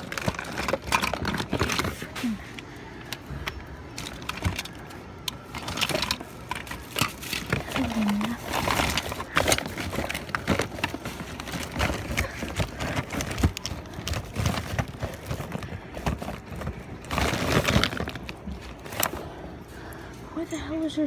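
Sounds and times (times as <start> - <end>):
items knocking and clattering: 0.0 - 2.6, 3.2 - 19.3
rustling of plastic bags and boxes: 0.0 - 21.0.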